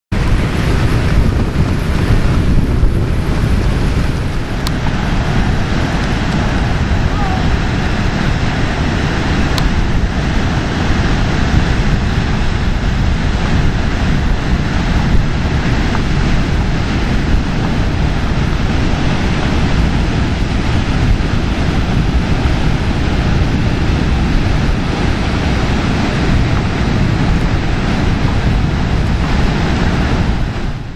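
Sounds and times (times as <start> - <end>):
sea surf: 0.1 - 30.9
wind buffeting microphone: 0.1 - 30.9.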